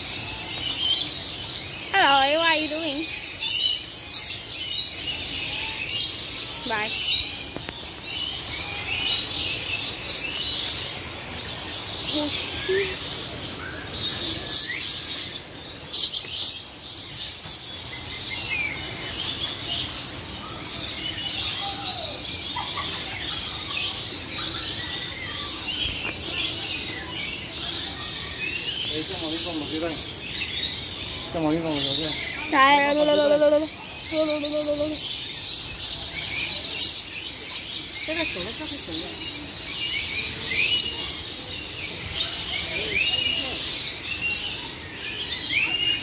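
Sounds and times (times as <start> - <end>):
flock of parrots chattering: 0.0 - 46.0.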